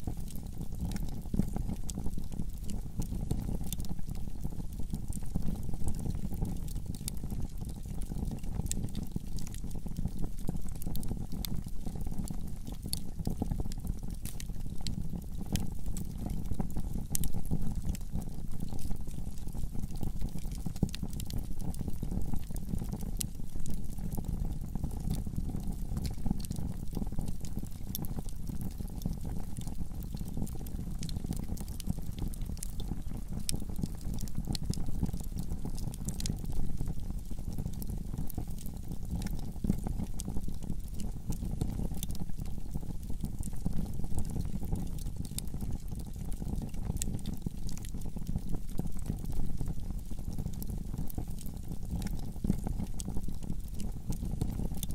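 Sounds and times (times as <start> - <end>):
fire crackling and popping: 0.0 - 54.9.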